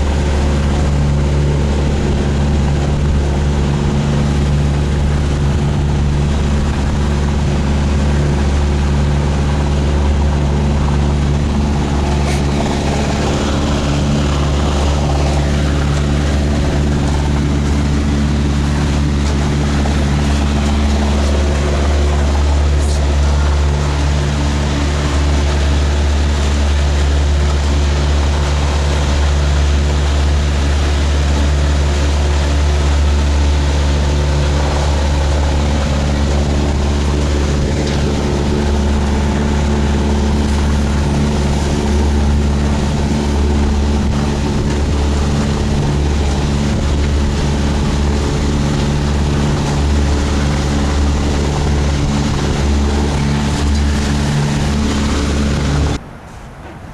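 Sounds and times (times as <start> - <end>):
boat diesel engine droning: 0.0 - 56.9.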